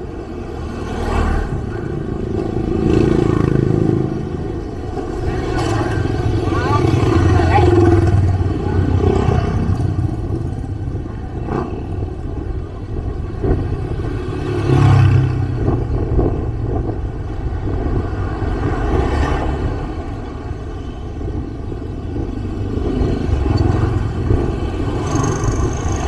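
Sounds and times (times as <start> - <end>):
motorbikes riding past: 0.0 - 26.0.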